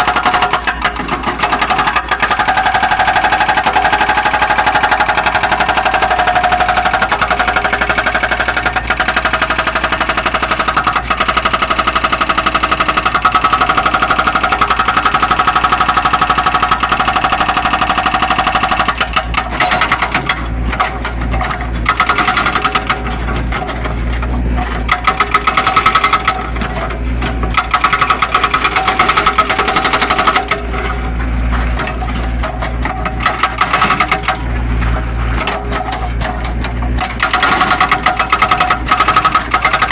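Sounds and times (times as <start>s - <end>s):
excavator diesel engine clattering: 0.0s - 39.9s.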